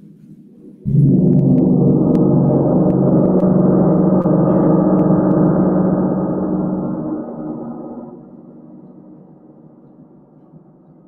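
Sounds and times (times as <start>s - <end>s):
large gong ringing: 0.8s - 10.5s.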